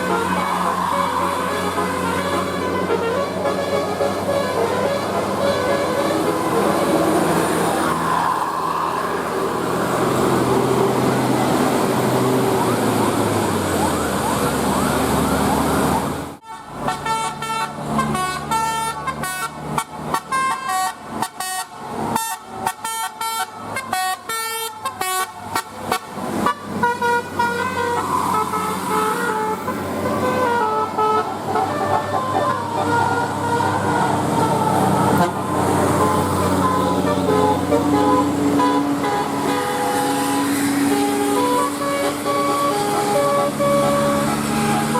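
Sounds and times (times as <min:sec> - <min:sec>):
bus air horn playing a tune: 0:00.0 - 0:11.0, 0:16.4 - 0:44.9
vehicle and horn noise: 0:00.0 - 0:13.1, 0:16.2 - 0:44.9.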